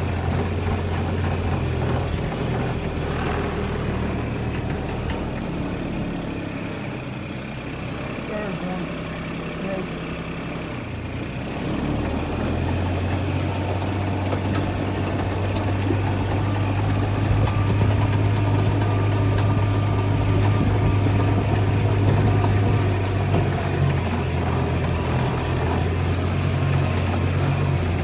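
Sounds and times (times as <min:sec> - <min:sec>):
engine running at low speed: 0:00.0 - 0:28.0.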